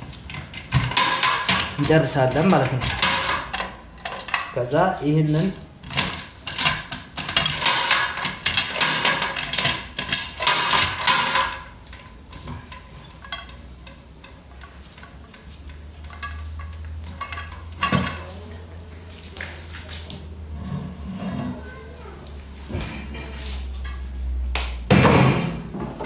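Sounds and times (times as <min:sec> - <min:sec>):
metal clattering and scraping: 0:00.0 - 0:18.5, 0:19.6 - 0:22.0, 0:24.9 - 0:26.0.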